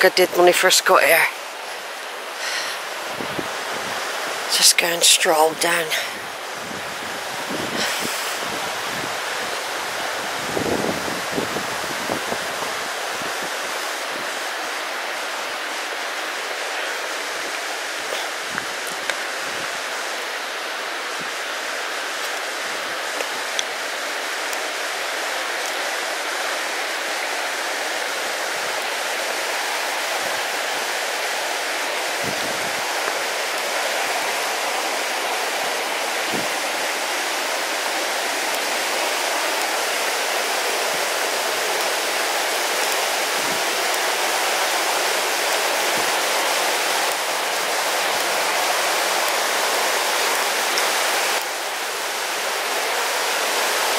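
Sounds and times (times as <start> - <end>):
river rushing over rocks: 0.0 - 53.9.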